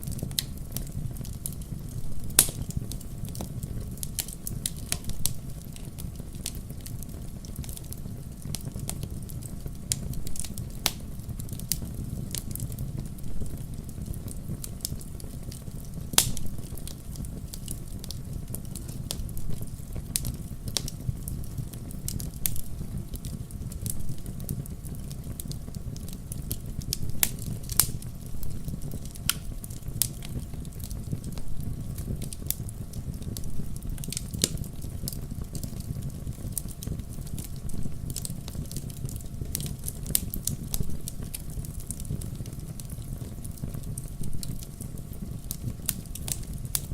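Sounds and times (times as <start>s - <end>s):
fire crackling and popping: 0.0s - 46.9s
low rumble of flames: 0.0s - 46.9s.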